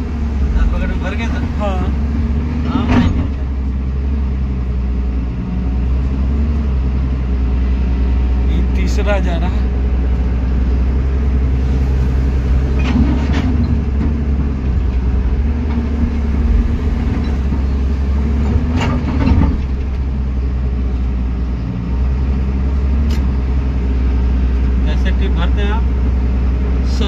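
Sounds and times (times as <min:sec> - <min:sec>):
excavator diesel engine humming: 0:00.0 - 0:27.0.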